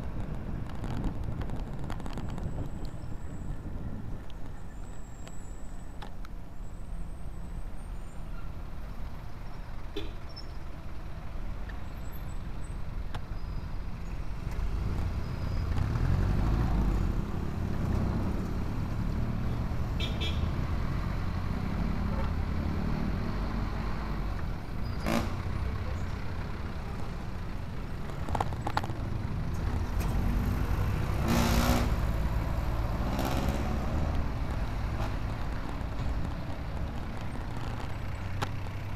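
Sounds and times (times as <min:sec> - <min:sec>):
low rumble of road noise: 0:00.0 - 0:38.9
diesel engines running close by: 0:07.0 - 0:38.9.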